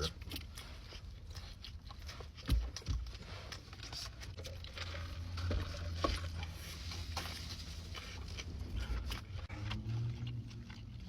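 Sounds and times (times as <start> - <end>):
chewing: 0.0 - 11.0
food handling clicks and rustles: 0.0 - 11.0.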